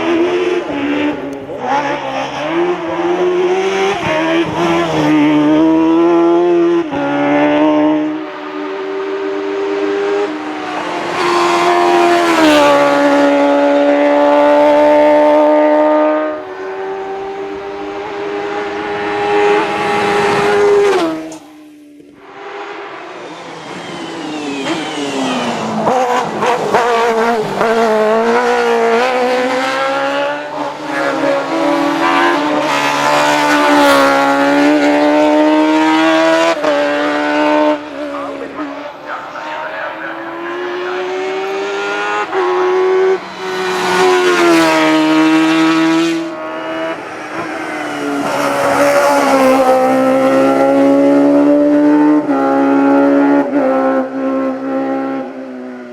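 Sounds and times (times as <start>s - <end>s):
racing engine at high revs: 0.0s - 55.9s.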